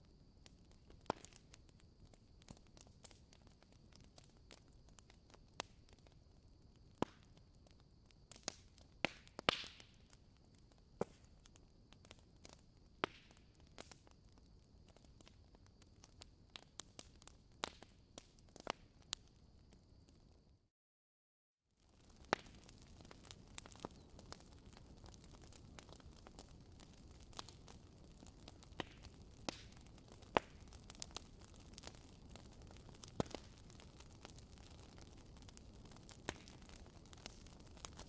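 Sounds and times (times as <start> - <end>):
wood fire crackling and popping: 0.4 - 20.1, 21.8 - 38.0.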